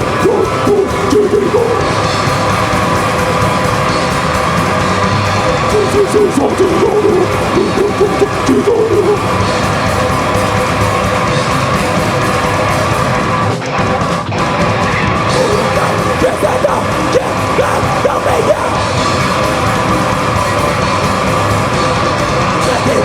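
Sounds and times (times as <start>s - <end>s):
shouted vocals: 0.0s - 11.8s, 15.2s - 23.0s
distorted guitars: 0.0s - 23.0s
drums: 0.0s - 23.0s.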